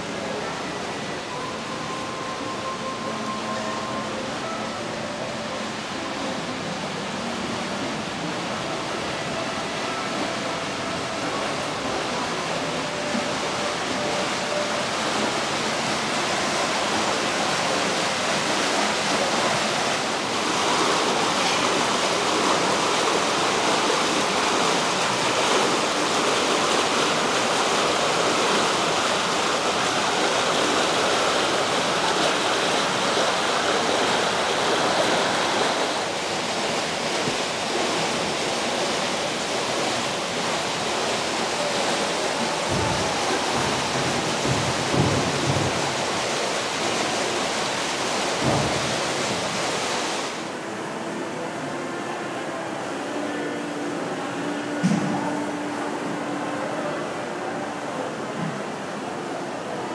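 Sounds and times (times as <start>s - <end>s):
rushing splashing water: 0.0s - 59.9s.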